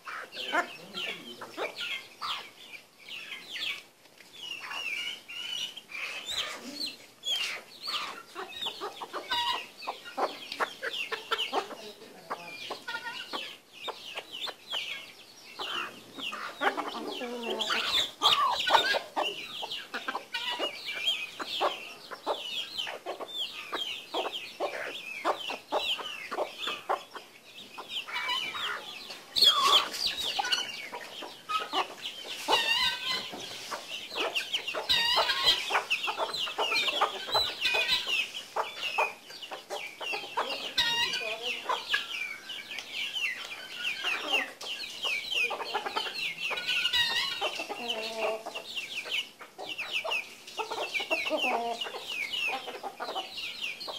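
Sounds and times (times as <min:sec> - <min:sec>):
beaks pecking grain: 0:00.0 - 0:53.9
hens clucking: 0:00.0 - 0:53.9
keets peeping: 0:00.0 - 0:53.9.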